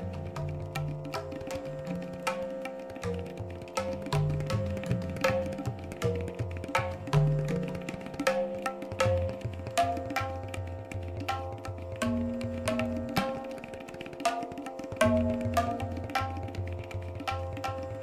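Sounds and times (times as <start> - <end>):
hand drum percussion: 0.0 - 18.0.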